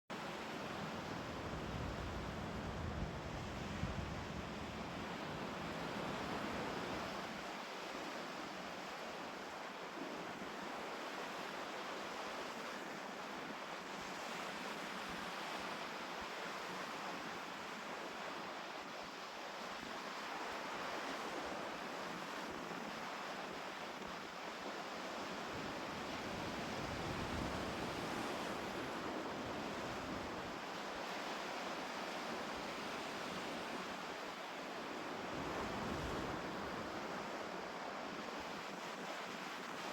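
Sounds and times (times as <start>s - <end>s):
lake waves breaking on a beach: 0.2s - 39.9s.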